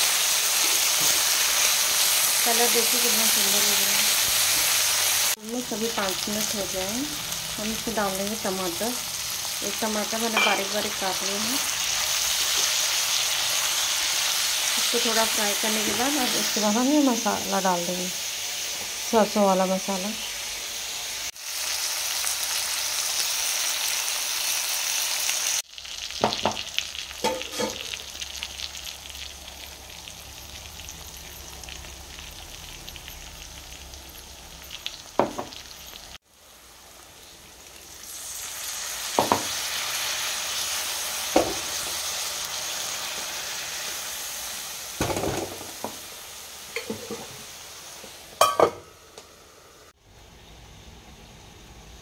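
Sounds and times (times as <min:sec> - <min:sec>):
vegetables sizzling in oil: 0:00.0 - 0:52.0.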